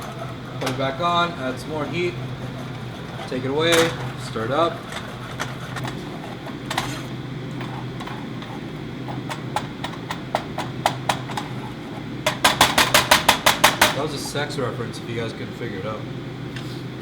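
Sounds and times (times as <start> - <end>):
utensil knocking on cookware: 0.0 - 14.2.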